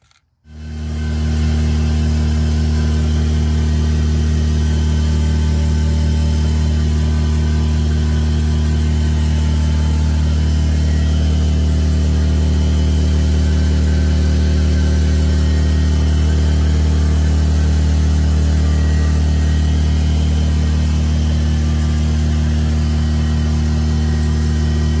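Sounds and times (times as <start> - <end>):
engine humming steadily: 0.1 - 25.0.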